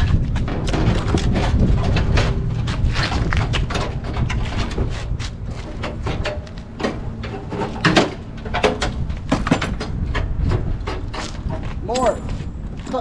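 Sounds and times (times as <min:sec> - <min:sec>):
low rumbling wind noise: 0:00.0 - 0:13.0
knocks and clicks: 0:00.1 - 0:12.4.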